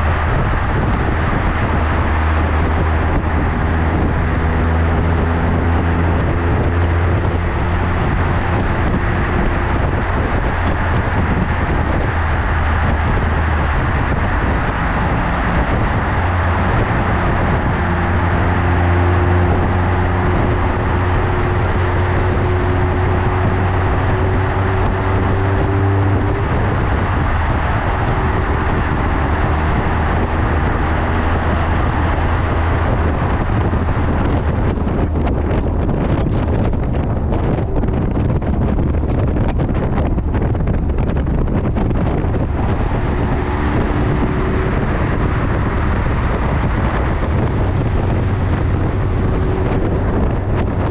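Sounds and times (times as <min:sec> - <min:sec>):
motorcycle engine: 0:00.0 - 0:50.9
wind noise on microphone: 0:00.0 - 0:50.9.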